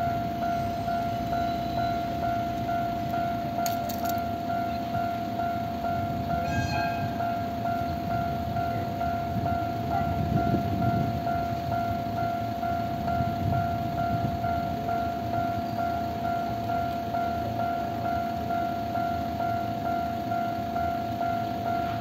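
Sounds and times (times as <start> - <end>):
level crossing alarm clanging: 0.0 - 22.0.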